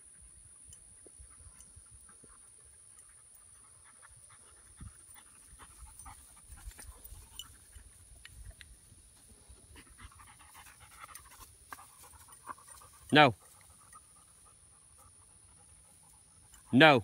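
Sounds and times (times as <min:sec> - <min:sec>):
dog panting: 0:01.2 - 0:08.1, 0:09.3 - 0:16.7.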